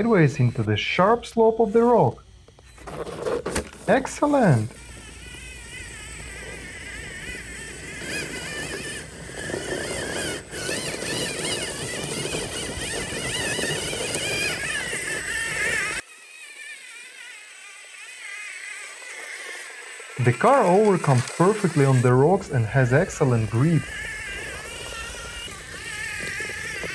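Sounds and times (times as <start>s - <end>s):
electric motor and gear whine: 0.0s - 26.9s.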